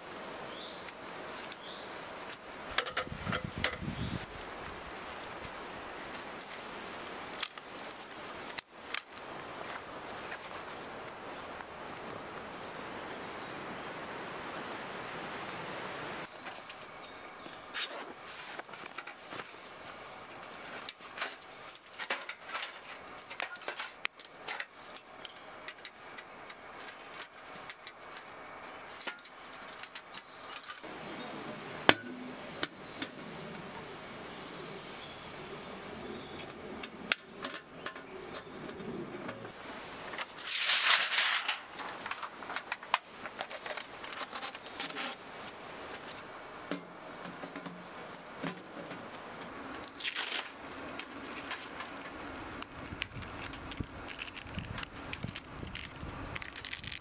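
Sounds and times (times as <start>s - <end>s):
bag and leaves rustling: 0.5s - 13.2s, 16.2s - 36.0s, 39.2s - 46.6s, 48.6s - 57.0s.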